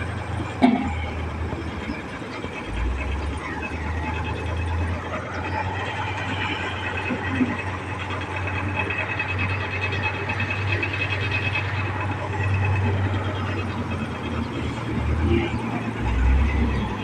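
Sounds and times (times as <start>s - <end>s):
road noise: 0.0s - 17.0s
truck engine droning: 0.0s - 17.0s.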